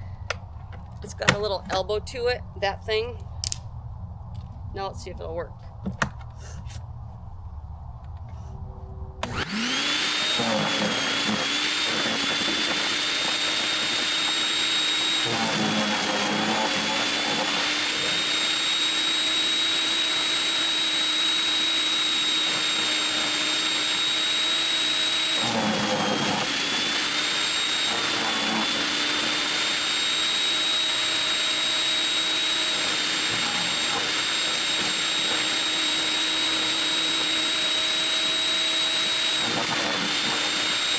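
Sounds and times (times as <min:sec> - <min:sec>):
wood chipper motor whining: 0:05.6 - 0:40.9.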